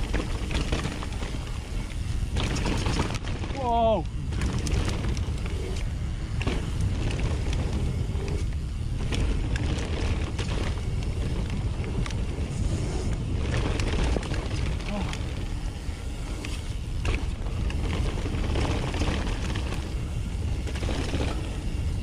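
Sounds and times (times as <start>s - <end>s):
bike rattling over bumps: 0.0s - 22.0s
tyres rolling over dirt: 0.0s - 22.0s
wind buffeting microphone: 0.0s - 22.0s.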